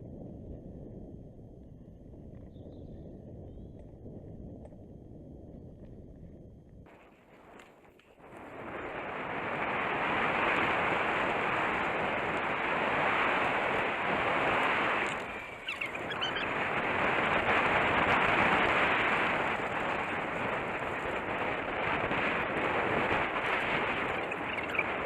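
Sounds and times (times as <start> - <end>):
wind buffeting microphone: 0.0 - 25.0
bike rolling on dirt trail: 1.8 - 25.0.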